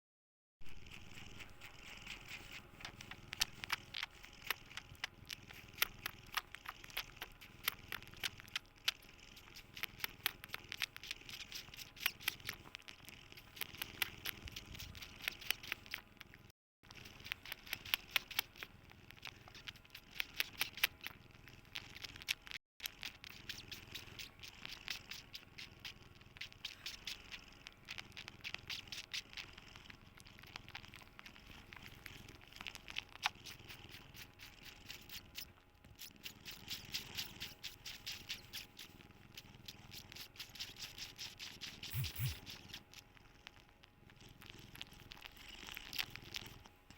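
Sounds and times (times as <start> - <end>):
faint steady hum: 0.6 - 46.9.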